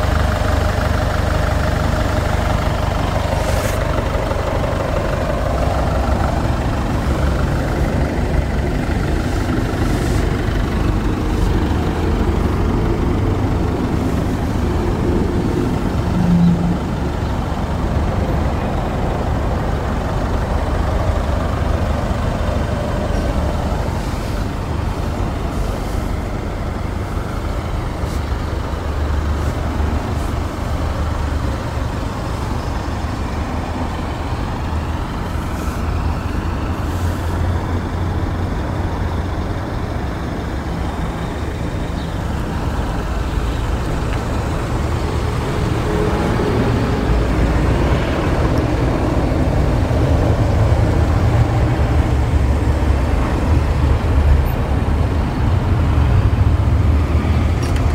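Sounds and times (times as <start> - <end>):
diesel engine idling: 0.0 - 57.9
outdoor traffic noise: 0.0 - 57.9.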